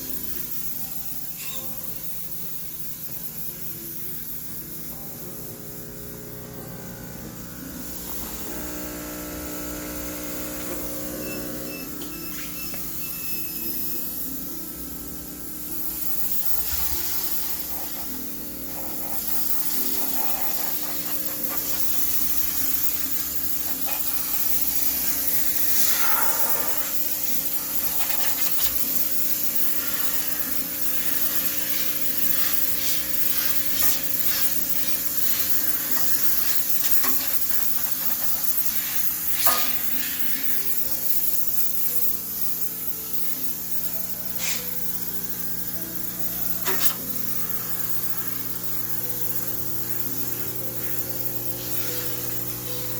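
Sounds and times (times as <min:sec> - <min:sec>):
steam cleaner hissing: 0:00.0 - 0:52.9.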